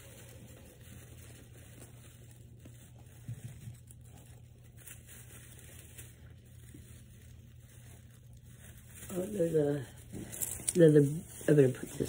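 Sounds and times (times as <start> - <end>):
low steady hum: 0.0 - 12.0
rustling artificial branches: 0.0 - 12.0.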